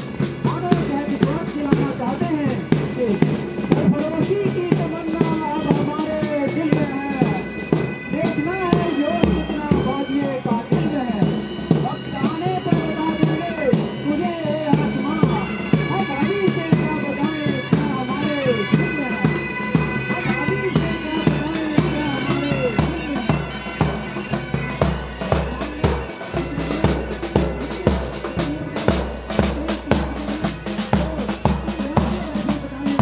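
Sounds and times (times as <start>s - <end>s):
bagpipes playing a march: 0.0s - 33.0s
bass and side drums march beat: 0.0s - 33.0s.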